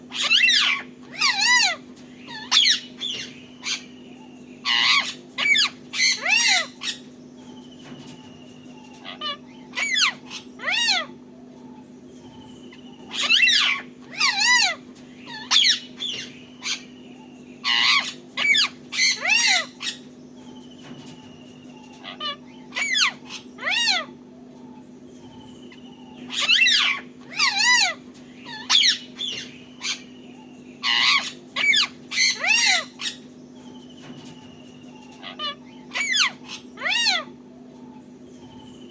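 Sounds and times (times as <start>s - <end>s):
parakeets screeching: 0.0s - 38.9s
steady low hum: 0.0s - 38.9s.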